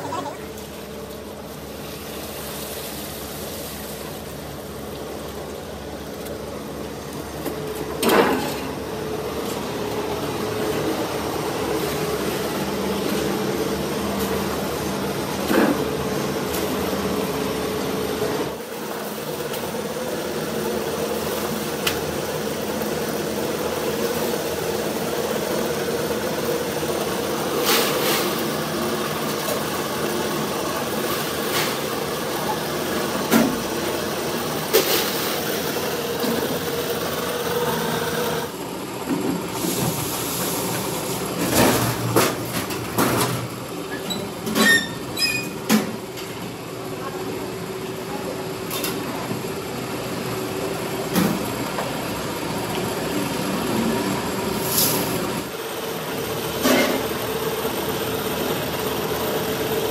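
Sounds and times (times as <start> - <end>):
metalworking machinery humming: 0.0 - 59.9.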